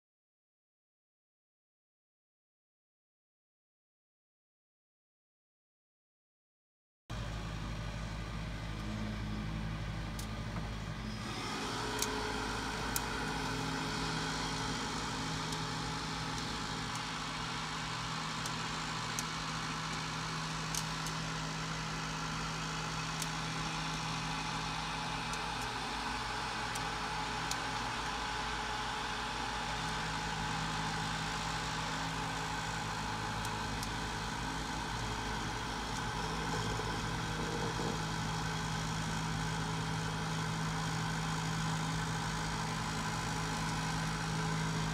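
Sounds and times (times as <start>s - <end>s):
cooker mechanical hum: 7.1s - 44.9s.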